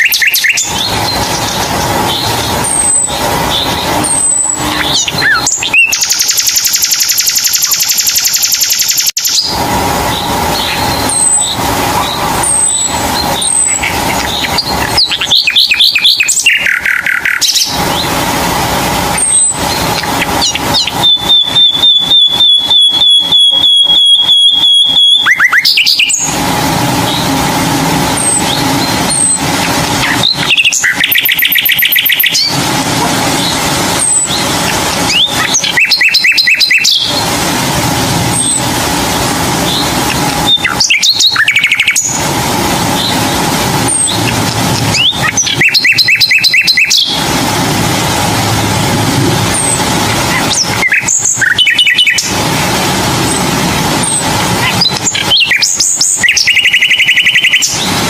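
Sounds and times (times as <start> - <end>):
birds chirping and trilling: 0.0 - 58.0
steady background hum: 0.0 - 58.0.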